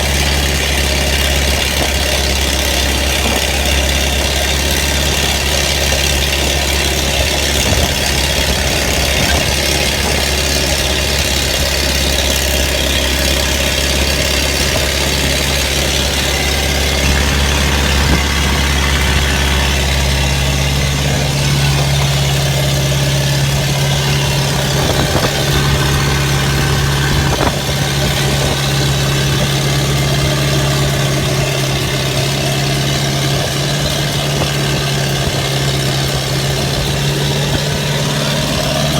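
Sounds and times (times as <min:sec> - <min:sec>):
diesel excavator engine running: 0:00.0 - 0:38.9.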